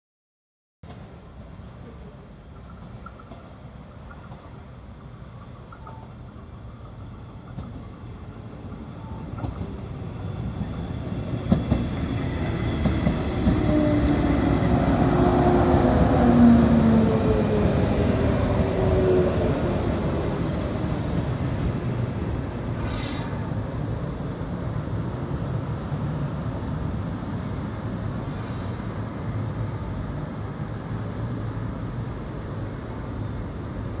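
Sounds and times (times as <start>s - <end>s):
train wheels rumbling on rails: 5.3s - 34.0s.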